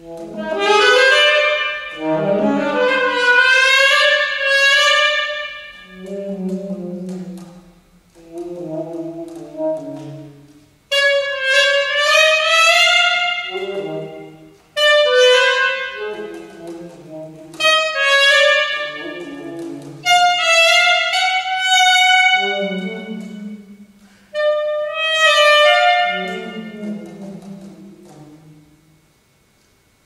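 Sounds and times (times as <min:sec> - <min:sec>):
solo saxophone playing: 0:00.0 - 0:29.1.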